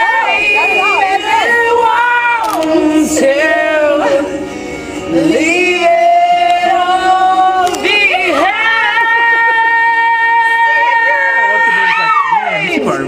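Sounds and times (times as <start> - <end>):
backing track music: 0.0 - 13.0
women singing karaoke duet: 0.0 - 13.0.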